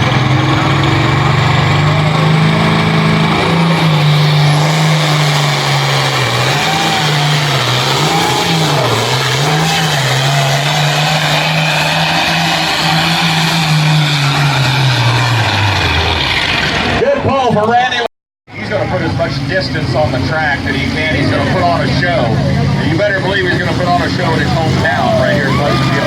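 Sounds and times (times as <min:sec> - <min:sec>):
tractor engine running hard: 0:00.0 - 0:17.7, 0:18.5 - 0:26.0.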